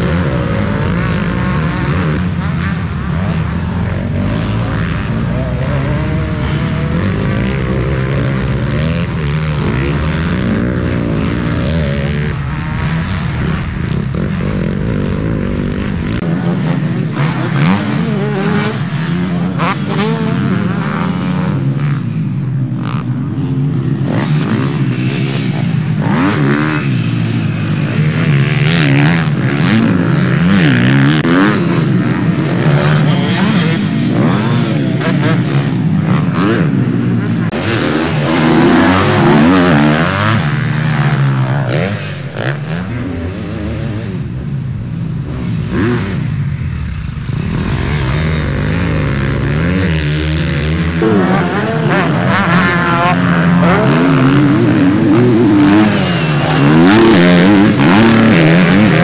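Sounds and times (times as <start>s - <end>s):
motocross bike engines racing: 0.0s - 59.0s.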